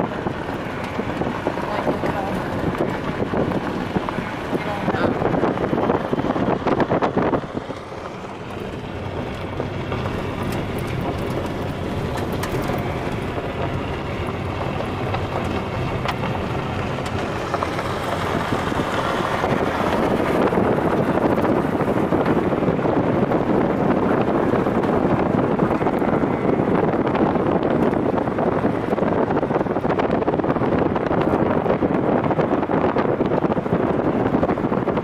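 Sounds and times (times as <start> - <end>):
vehicle road noise: 0.0 - 35.0
wind buffeting microphone: 0.0 - 35.0.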